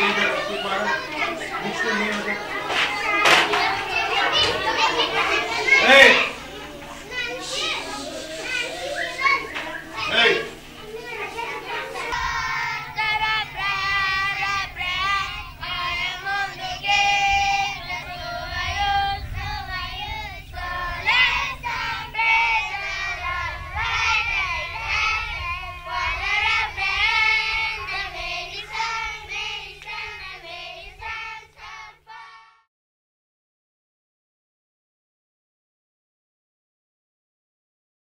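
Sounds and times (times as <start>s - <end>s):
electrical hum: 0.0s - 32.0s
children singing: 0.0s - 32.7s.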